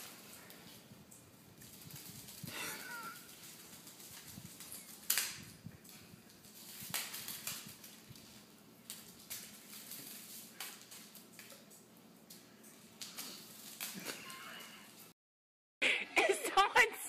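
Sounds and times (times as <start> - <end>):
paws tapping on tile floor: 0.0 - 14.1.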